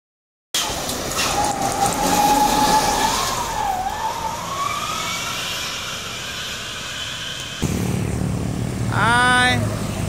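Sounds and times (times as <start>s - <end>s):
truck engine whine: 0.6s - 10.0s
tyre and road noise: 0.6s - 10.0s.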